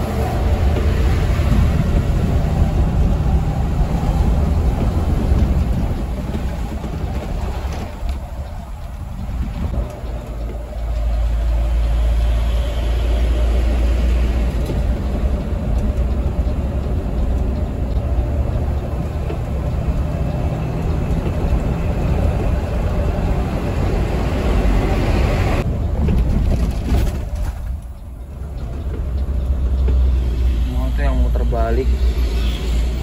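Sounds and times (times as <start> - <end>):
coach engine rumble: 0.0 - 33.0
road and wind noise: 0.0 - 33.0.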